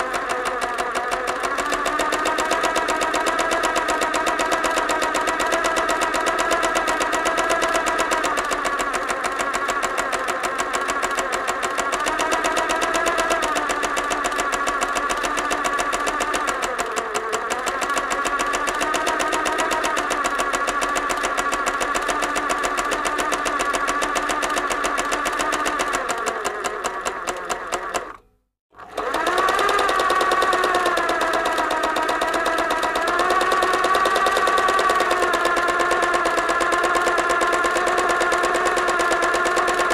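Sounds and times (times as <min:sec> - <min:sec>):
sewing machine running: 0:00.0 - 0:28.2, 0:28.8 - 0:39.9.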